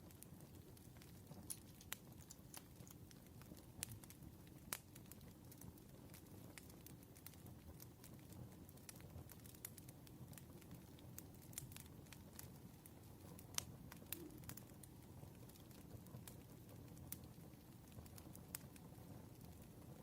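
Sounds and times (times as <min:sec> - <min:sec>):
low rumble of flame: 0:00.0 - 0:20.0
wood crackling and popping: 0:00.0 - 0:20.0.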